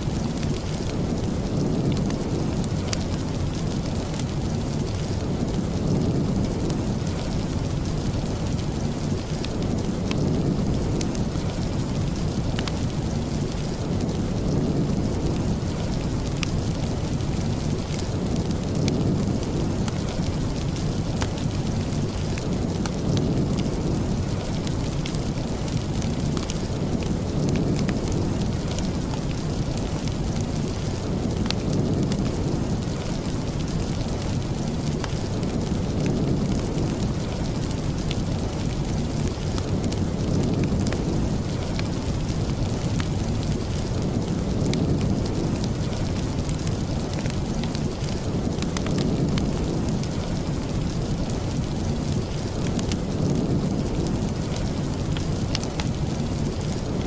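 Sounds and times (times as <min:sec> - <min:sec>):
heavy rain hiss: 0:00.0 - 0:57.0
sharp ticks and crackles: 0:00.1 - 0:57.0.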